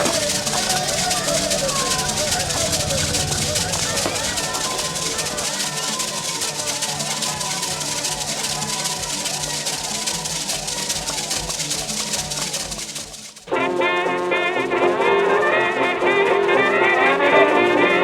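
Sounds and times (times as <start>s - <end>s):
louder music piece: 0.0s - 18.0s
music with shaker rattle: 0.0s - 18.0s.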